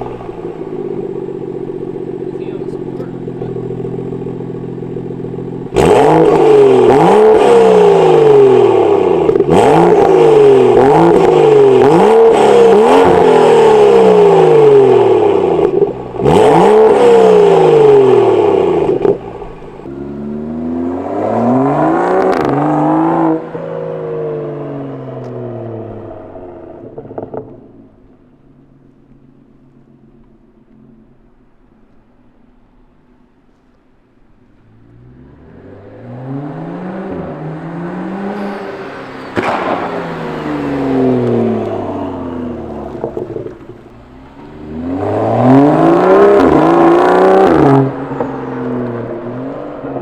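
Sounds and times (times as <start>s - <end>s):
car engine revving loudly: 0.0s - 27.7s, 34.8s - 50.0s.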